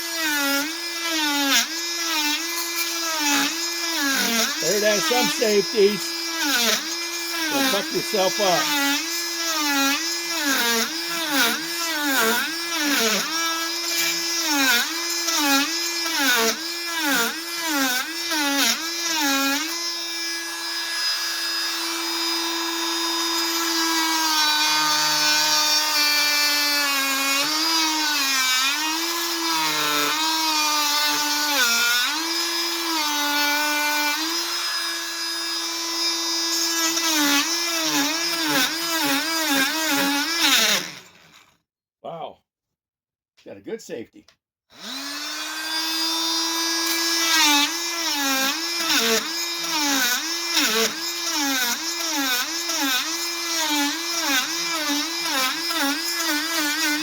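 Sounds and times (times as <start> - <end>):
oscillating multi-tool buzzing: 0.0 - 41.5, 44.7 - 57.0.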